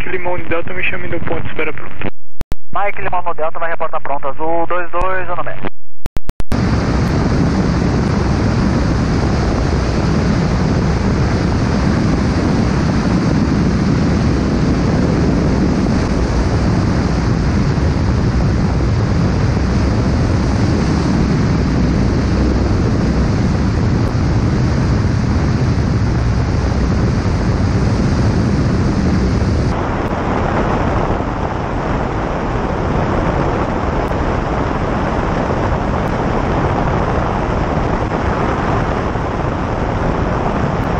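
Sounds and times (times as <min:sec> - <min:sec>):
propeller aircraft engine drone: 0:06.6 - 0:40.9
wind rush: 0:06.6 - 0:40.9.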